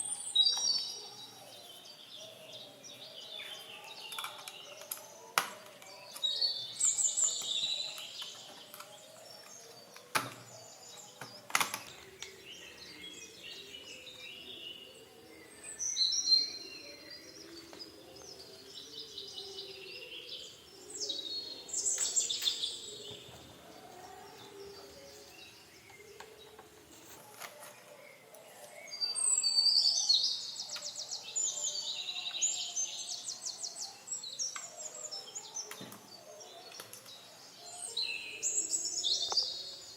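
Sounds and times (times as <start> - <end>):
songbirds trilling and whistling: 0.0 - 39.9.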